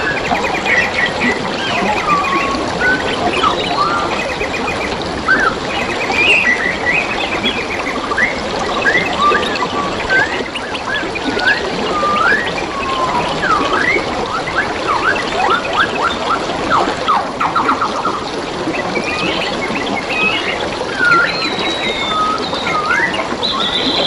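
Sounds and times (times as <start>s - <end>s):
trickle of flowing water: 0.0s - 24.0s
wild birds whistling and calling: 0.0s - 24.0s.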